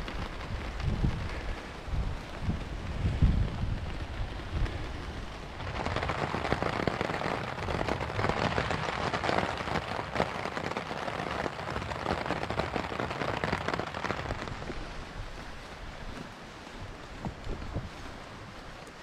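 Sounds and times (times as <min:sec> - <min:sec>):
rain on a tarp: 0:00.0 - 0:19.0.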